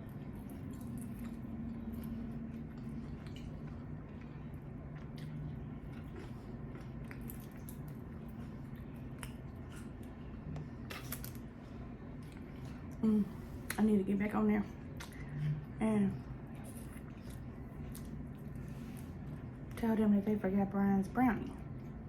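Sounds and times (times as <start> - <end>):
wet chewing and mouth sounds: 0.0 - 13.9, 14.8 - 19.8
low hum: 0.0 - 22.0.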